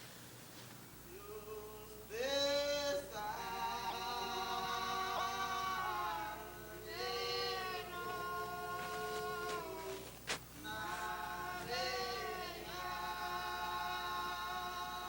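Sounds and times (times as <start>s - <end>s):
choir singing a hymn: 1.1s - 15.0s.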